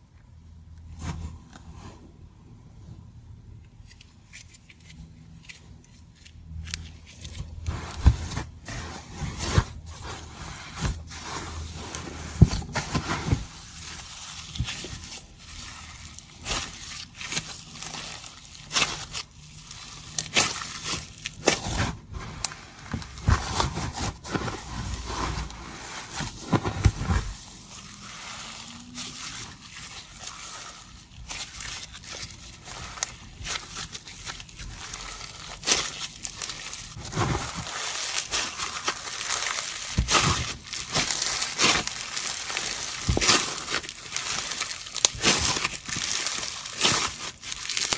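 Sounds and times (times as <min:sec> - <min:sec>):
foam bead slime crunching: 0:04.4 - 0:47.9.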